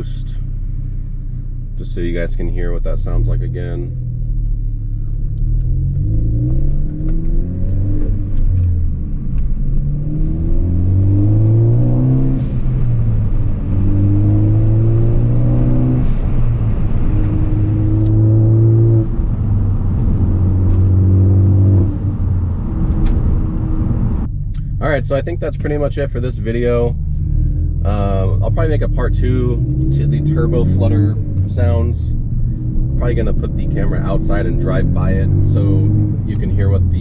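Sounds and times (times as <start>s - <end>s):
turbocharged car engine revving: 5.2s - 24.3s, 25.2s - 37.0s.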